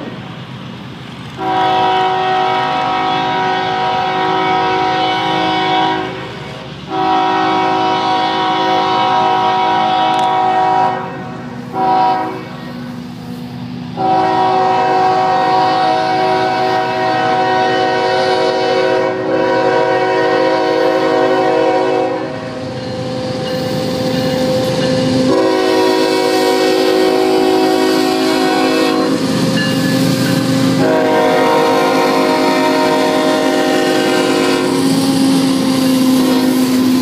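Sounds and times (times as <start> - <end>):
locomotive air horn blasts: 1.4 - 12.8, 14.0 - 22.6, 23.6 - 35.0, 35.6 - 37.0.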